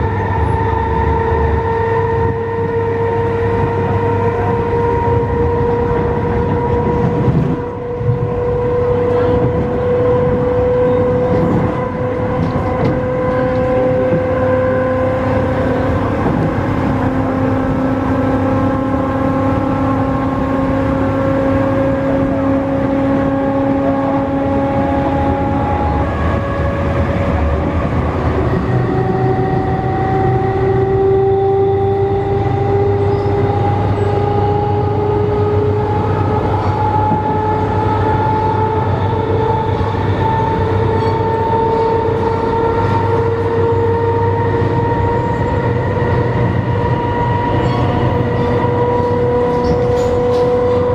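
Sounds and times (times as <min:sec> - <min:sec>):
running train rumble: 0:00.0 - 0:50.9.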